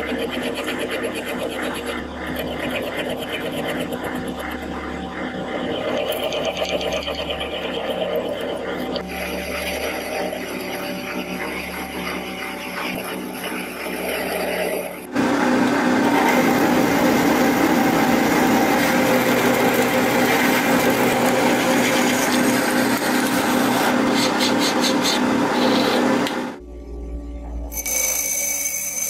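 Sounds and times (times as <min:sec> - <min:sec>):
file rasping on spinning metal: 0:00.0 - 0:15.1, 0:16.2 - 0:26.3
metal lathe turning: 0:00.0 - 0:26.6
lathe cutting metal: 0:00.1 - 0:26.6.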